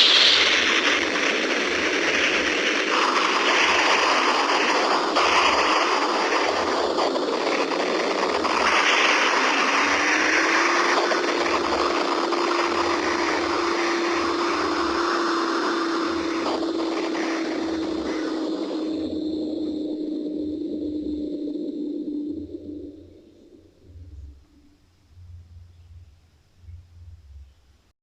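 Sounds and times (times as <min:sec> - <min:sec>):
energy blast sound effect roar: 0:00.0 - 0:23.3
low pulsing throb: 0:00.0 - 0:27.9.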